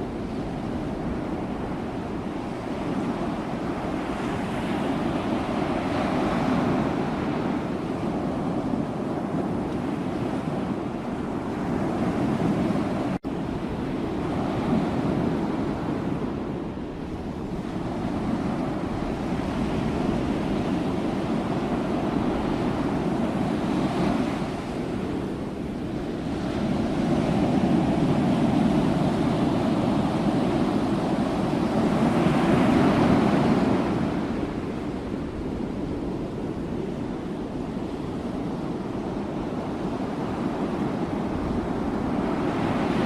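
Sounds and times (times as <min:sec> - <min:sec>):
sea waves washing on shore: 0:00.0 - 0:43.0.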